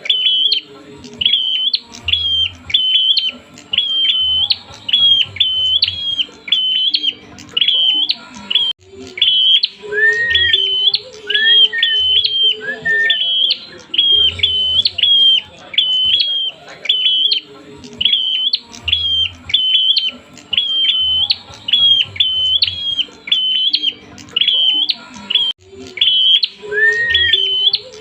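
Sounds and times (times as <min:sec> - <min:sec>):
bird chirping rapidly: 0:00.0 - 0:28.0
lower rising bird notes: 0:00.0 - 0:28.0.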